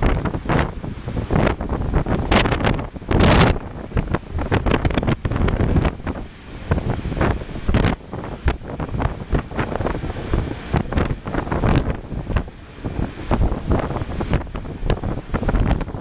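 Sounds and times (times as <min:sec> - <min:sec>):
surf washing across beach: 0:00.0 - 0:16.0
wind buffeting microphone: 0:00.0 - 0:16.0.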